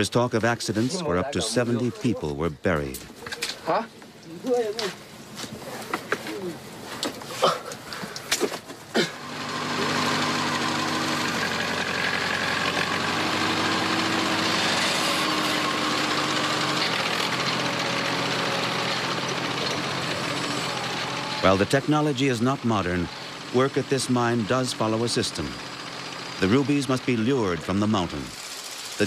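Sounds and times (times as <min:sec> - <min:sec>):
excavator engine running: 0:04.4 - 0:29.0.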